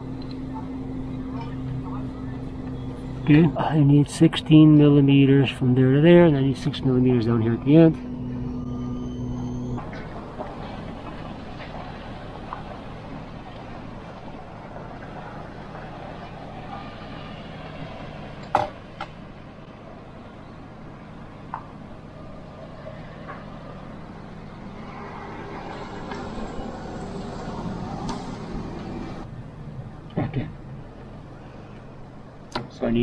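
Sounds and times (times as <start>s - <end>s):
distant traffic hum: 0.0s - 33.0s.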